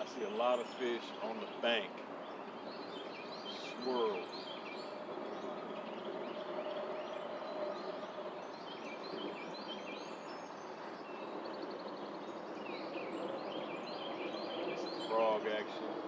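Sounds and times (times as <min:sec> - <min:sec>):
birds chirping and calling: 0:00.0 - 0:16.0
outdoor background hiss: 0:00.0 - 0:16.0.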